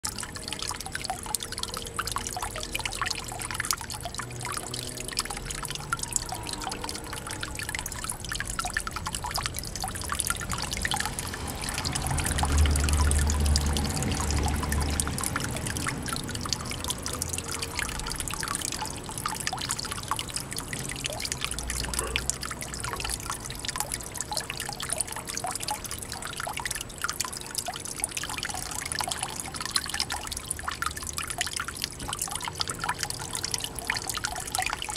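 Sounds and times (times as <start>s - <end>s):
water splashing into pond: 0.0s - 34.9s.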